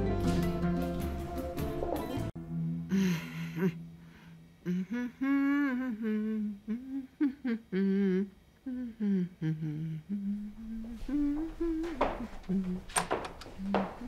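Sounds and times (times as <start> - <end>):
woman humming: 2.4 - 14.0.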